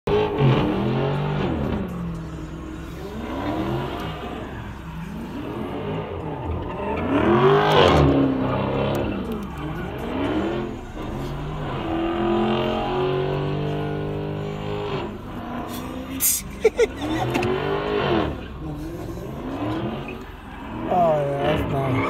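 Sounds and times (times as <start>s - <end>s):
car engine revving hard: 0.1s - 22.0s.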